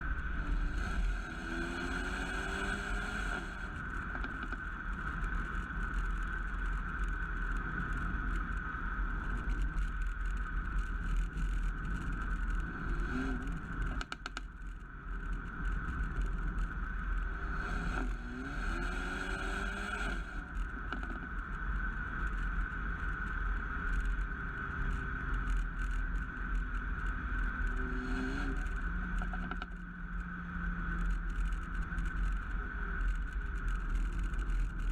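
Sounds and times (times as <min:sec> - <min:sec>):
car engine and exhaust: 0:00.0 - 0:34.9
road and wind rumble: 0:00.0 - 0:34.9.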